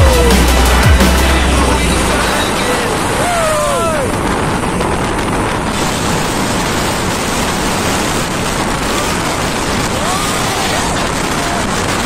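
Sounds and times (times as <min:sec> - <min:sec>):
vehicle road noise: 0:00.0 - 0:12.0
wind rushing on microphone: 0:00.0 - 0:12.0.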